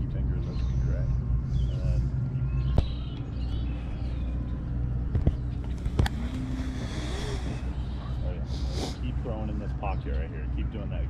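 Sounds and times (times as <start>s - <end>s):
boat motor hum: 0.0s - 11.0s.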